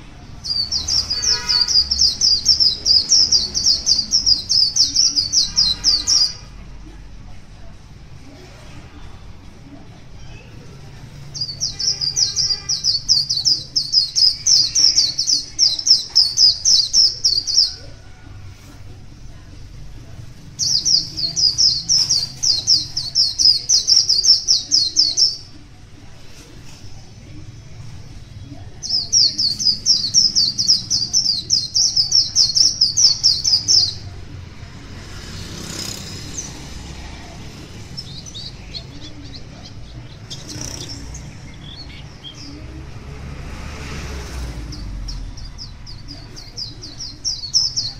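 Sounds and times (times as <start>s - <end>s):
birds twittering: 0.0s - 6.8s, 10.2s - 43.0s, 44.0s - 47.9s.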